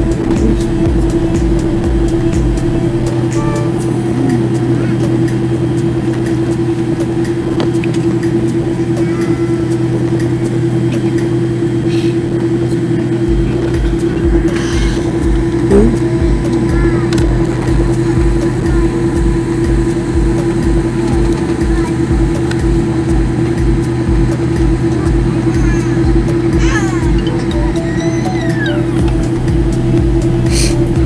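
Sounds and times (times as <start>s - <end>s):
low regular thumping: 0.0s - 8.9s, 10.0s - 28.0s, 28.8s - 31.0s
aircraft cabin engine hum: 0.0s - 31.0s.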